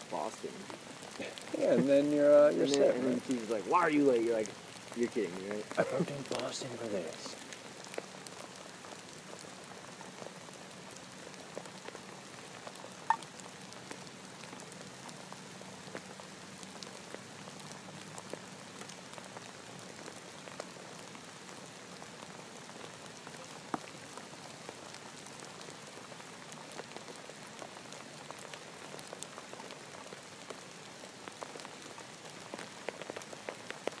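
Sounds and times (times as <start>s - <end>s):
rain hissing: 0.0s - 34.0s
raindrops ticking: 0.0s - 34.0s.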